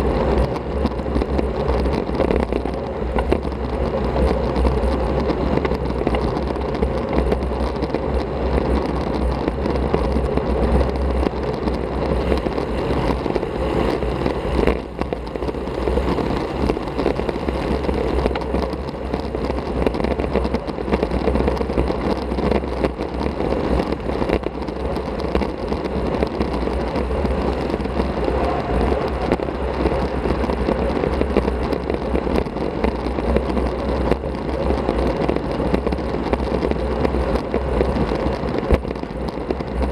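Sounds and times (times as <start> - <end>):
bicycle tyre and road noise: 0.0 - 39.9
wind rushing on microphone: 0.0 - 39.9.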